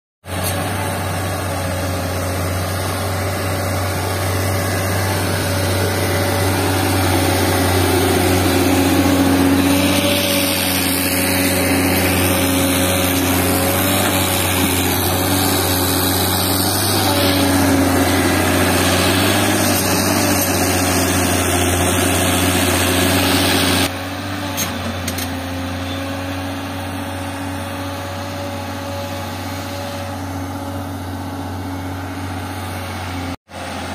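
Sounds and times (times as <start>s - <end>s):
diesel engines running: 0.2s - 33.9s.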